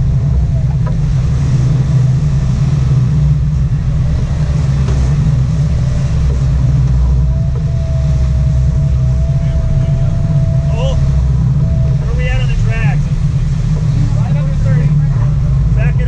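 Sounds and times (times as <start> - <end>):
boat engines rumbling: 0.0 - 16.0
churning wake: 0.0 - 16.0.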